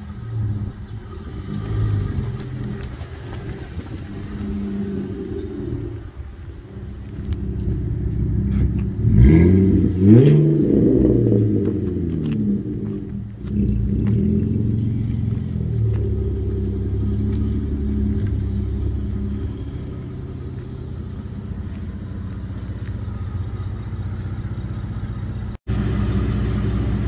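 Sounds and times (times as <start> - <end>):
car engine revving: 0.0 - 27.0
car engine rumbling: 0.0 - 27.0.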